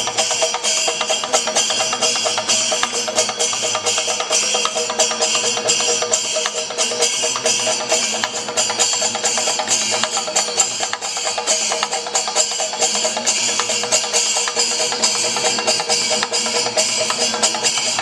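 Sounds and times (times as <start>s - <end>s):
drums beaten fast: 0.0s - 18.0s
small cymbals ringing: 0.0s - 18.0s
steady held pitches: 0.0s - 18.0s.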